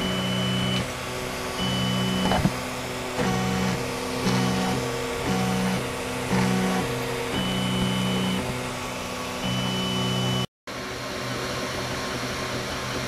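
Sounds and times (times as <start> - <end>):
stepper motor whines: 0.0 - 10.5
fan hum: 0.0 - 13.0.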